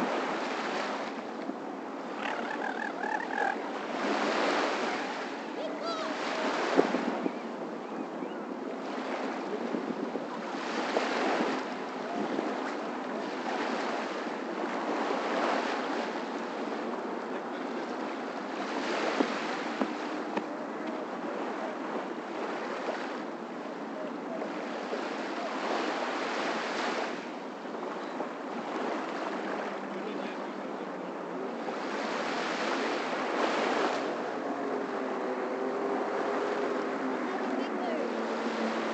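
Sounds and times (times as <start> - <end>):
small waves washing onto sand: 0.0 - 38.9.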